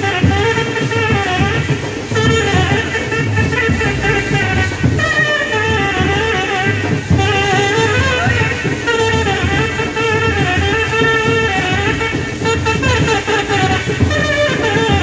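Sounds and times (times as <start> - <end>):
band accompaniment: 0.0 - 15.0
steady low drum beat: 0.0 - 15.0
trumpet melody: 0.0 - 15.0.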